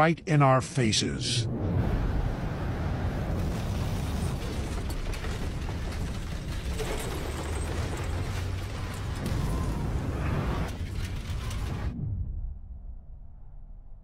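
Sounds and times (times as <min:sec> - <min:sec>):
low rumble: 0:01.4 - 0:14.0.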